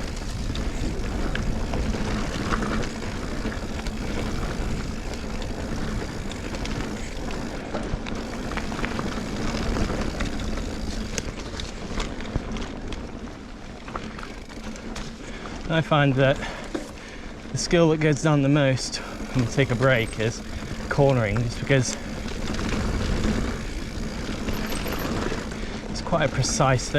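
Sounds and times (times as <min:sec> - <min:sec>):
bike clicks and rattles: 0:00.0 - 0:26.9
wind and tyre noise: 0:00.0 - 0:26.9.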